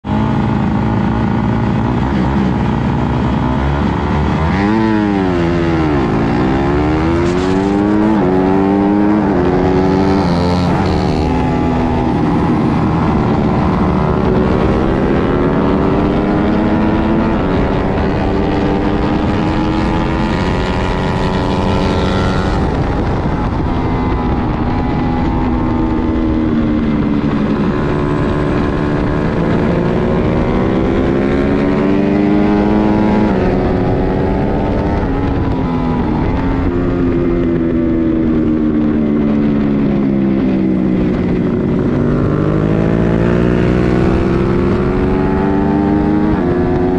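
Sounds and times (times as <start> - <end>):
loud wind rush: 0.0 - 46.9
race motorcycle engine revving: 0.0 - 46.9.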